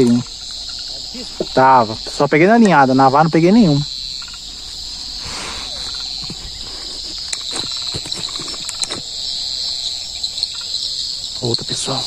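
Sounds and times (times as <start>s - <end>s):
faint clicks: 0.0s - 11.9s
crickets trilling: 0.0s - 12.0s.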